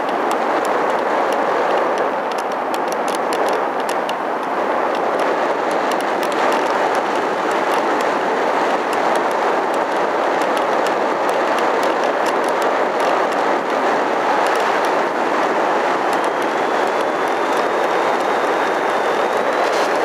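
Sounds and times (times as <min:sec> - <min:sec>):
rushing air and propeller: 0:00.0 - 0:20.0.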